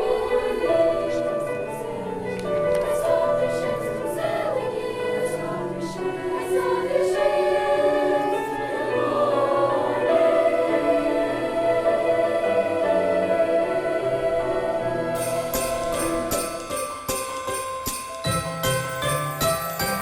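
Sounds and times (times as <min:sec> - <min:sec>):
choir singing sustained chords: 0:00.0 - 0:18.3.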